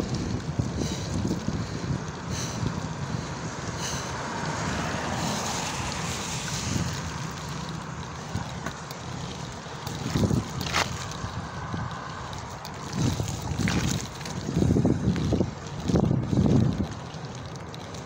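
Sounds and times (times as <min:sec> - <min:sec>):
tyres hissing on wet tarmac: 0:00.0 - 0:18.0
wind buffeting microphone: 0:00.0 - 0:18.0.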